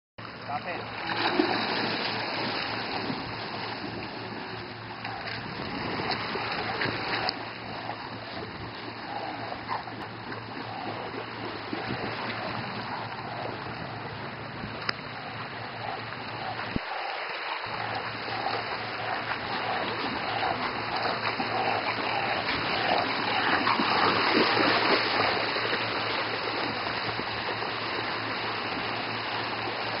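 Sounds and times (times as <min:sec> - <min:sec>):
small waves breaking: 0:00.2 - 0:30.0
water splashing and sloshing: 0:00.2 - 0:30.0.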